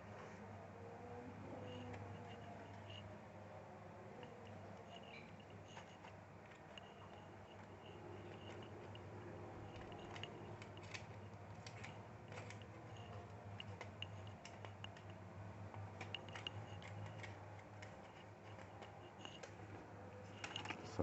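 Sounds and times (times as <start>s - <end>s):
steady low hum: 0.0s - 21.0s
small laptop parts clicking: 1.4s - 3.1s, 4.0s - 20.8s.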